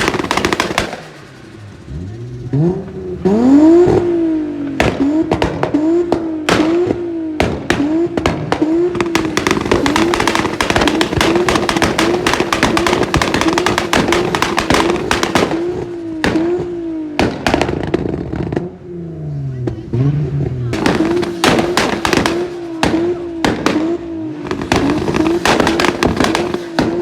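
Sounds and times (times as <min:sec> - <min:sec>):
car engine bouncing on limiter: 0:00.0 - 0:27.0
exhaust crackles and bangs: 0:00.0 - 0:27.0.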